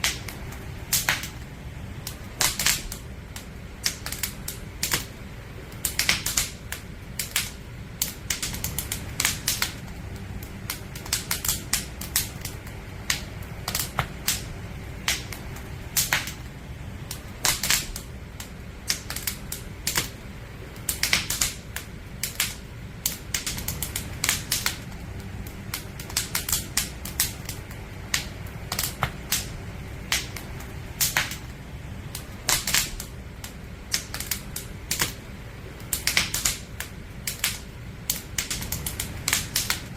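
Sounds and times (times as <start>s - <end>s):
campfire crackling and popping: 0.0s - 39.9s
fire low rumble: 0.0s - 39.9s.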